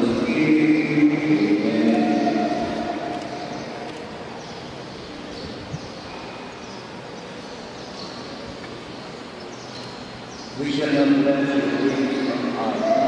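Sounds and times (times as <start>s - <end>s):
murmur in reverberant hall: 0.0s - 13.0s.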